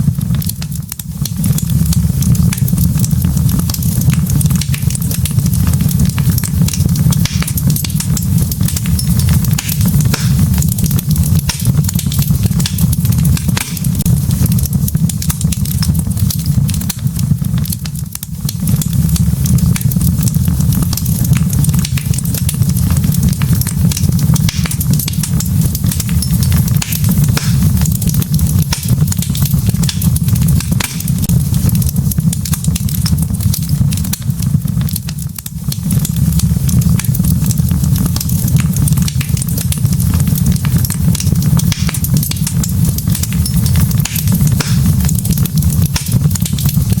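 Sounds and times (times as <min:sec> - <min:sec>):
burning wood crackling: 0:00.0 - 0:47.0
fire popping: 0:00.0 - 0:47.0
low rumble of fire: 0:00.0 - 0:47.0
low rush of flame: 0:00.0 - 0:47.0.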